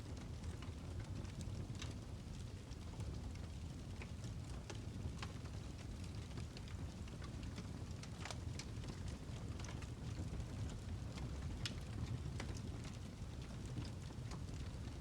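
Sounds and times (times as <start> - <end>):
low rumble of flames: 0.0 - 15.0.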